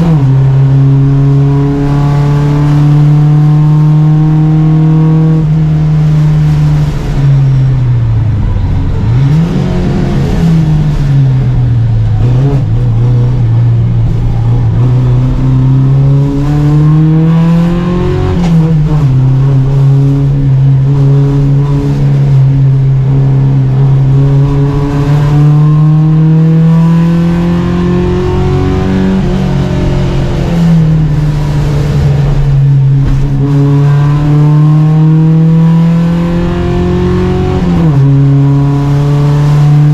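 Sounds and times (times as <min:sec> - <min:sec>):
racing car engine under load: 0:00.0 - 0:39.9.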